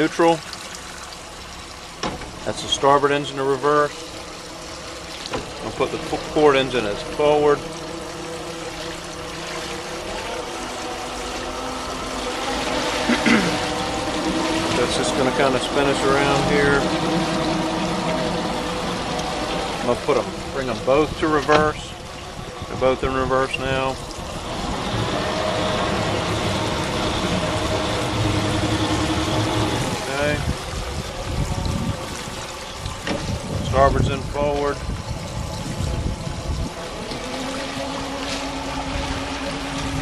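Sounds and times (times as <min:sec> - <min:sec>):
engine whine: 0:00.0 - 0:40.0
outboard motors idling: 0:00.0 - 0:40.0
water churning and splashing: 0:00.0 - 0:40.0.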